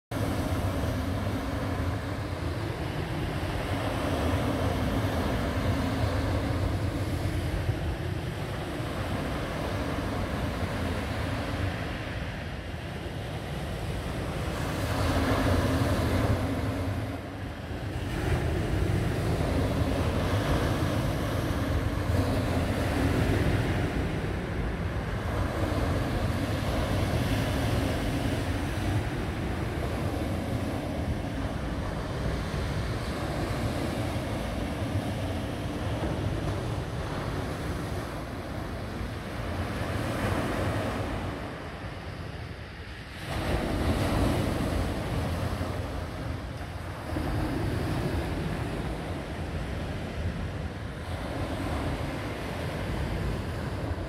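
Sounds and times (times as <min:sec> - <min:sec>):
wind buffeting microphone: 0:00.1 - 0:54.0.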